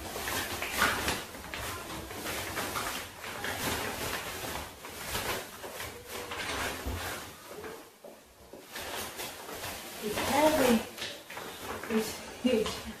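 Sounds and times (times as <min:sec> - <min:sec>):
fabric rustling and scraping: 0:00.0 - 0:13.0.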